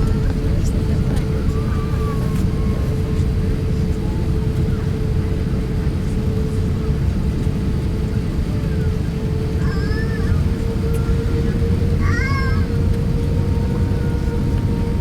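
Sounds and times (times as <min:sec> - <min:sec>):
aircraft engine low rumble: 0:00.0 - 0:15.0
constant hum: 0:00.0 - 0:15.0.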